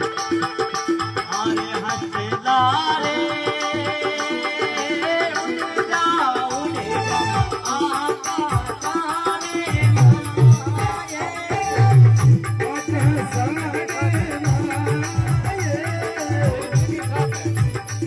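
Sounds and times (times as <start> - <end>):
jingling percussion: 0.0 - 18.0
rhythmic drum beat: 0.0 - 18.0.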